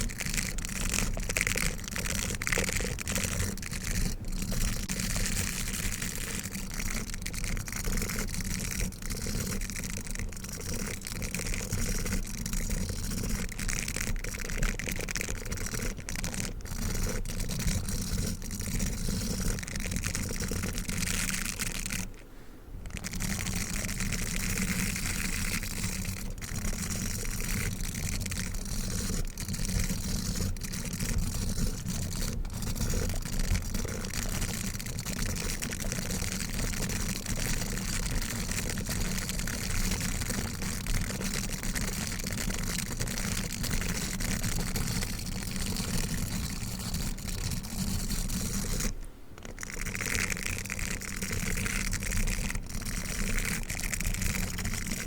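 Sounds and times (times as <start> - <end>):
toothbrush bristles scratching: 0.0 - 22.2, 22.9 - 55.0.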